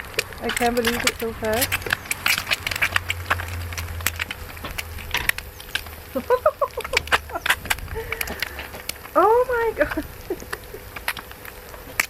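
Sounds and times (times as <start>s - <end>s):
egg frying in hot oil: 0.0s - 12.0s
low steady hob hum: 0.0s - 12.0s.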